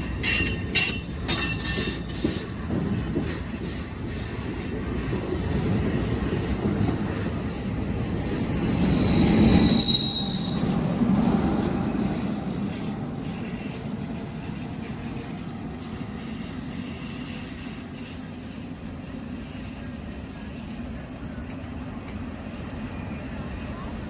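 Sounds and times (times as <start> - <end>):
train rumbling with hiss: 0.0 - 24.0.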